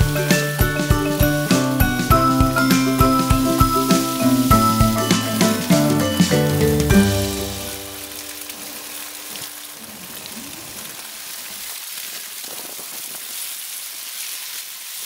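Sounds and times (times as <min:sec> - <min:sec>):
tyres hissing on slushy road: 0:00.0 - 0:15.0.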